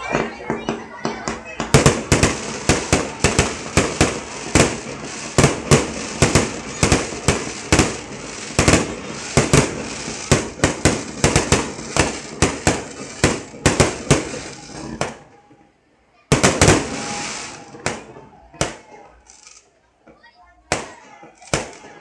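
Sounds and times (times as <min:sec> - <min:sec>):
fireworks bursting: 0:00.0 - 0:19.7, 0:20.6 - 0:22.0.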